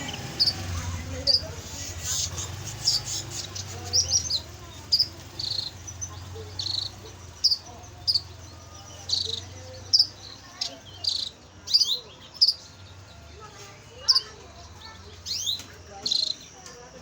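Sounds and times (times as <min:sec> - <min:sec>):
canary chirping and trilling: 0:00.0 - 0:17.0.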